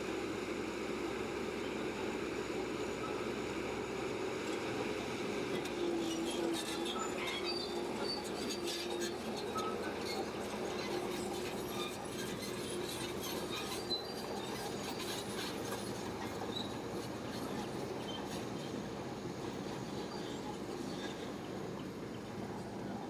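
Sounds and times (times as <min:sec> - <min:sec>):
bulldozer engine running: 0:00.0 - 0:23.0.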